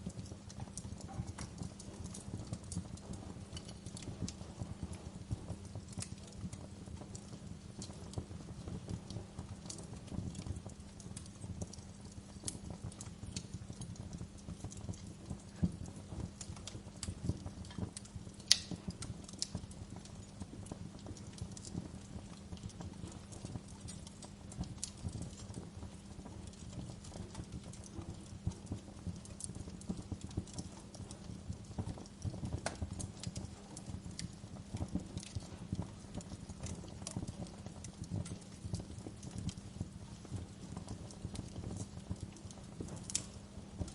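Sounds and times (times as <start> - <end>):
low rumble of burning: 0.0 - 43.9
wood fire crackling and popping: 0.0 - 43.9.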